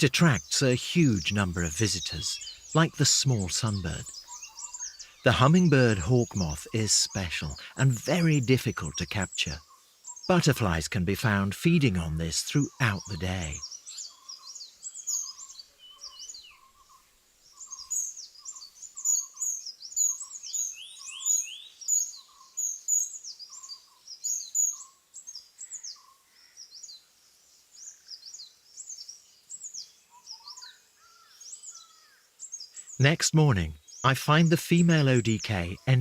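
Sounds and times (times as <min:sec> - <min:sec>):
low repeated bird call: 0:00.0 - 0:27.0, 0:27.7 - 0:36.0
birds chirping: 0:00.0 - 0:36.0.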